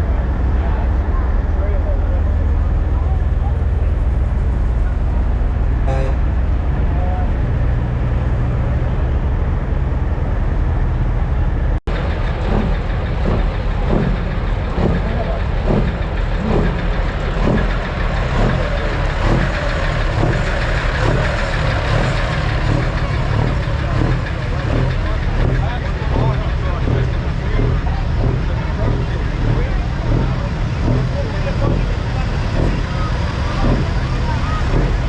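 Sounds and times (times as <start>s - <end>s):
people talking: 0.0s - 10.6s, 11.2s - 35.0s
diesel truck engines rumbling: 0.0s - 35.0s.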